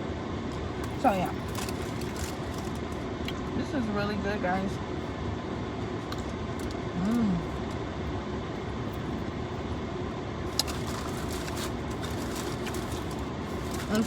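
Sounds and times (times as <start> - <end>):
car air conditioning blowing: 0.0 - 14.0.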